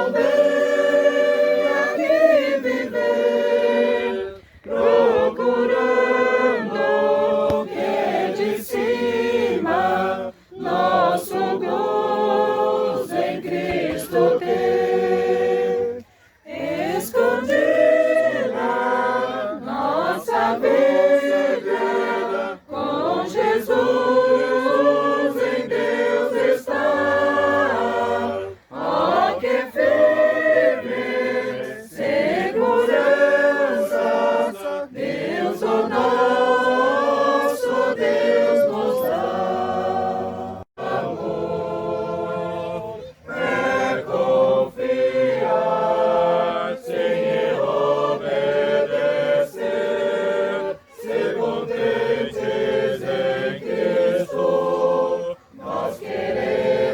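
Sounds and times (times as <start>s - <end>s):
group singing a hymn: 0.0s - 56.9s.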